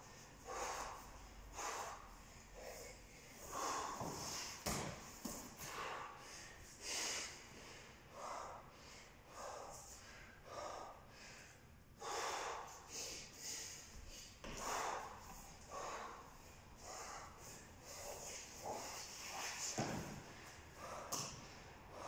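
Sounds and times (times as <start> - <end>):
man breathing hard: 0.0 - 22.0.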